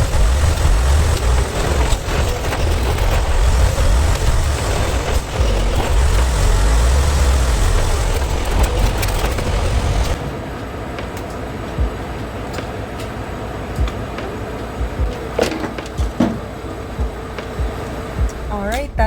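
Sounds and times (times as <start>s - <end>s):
road and wind noise: 0.0s - 19.0s
truck engine rumble: 0.0s - 19.0s.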